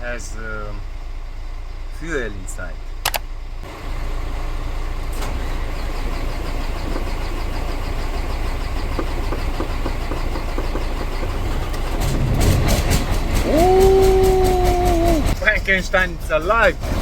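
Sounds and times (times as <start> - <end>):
diesel engine cranking and starting: 0.0 - 17.0.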